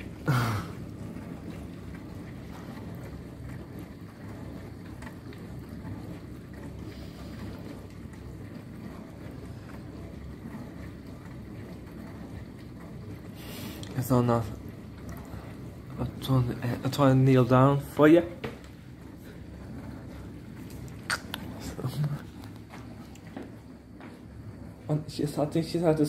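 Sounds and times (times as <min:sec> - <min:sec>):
dishwasher humming: 0:00.0 - 0:26.0.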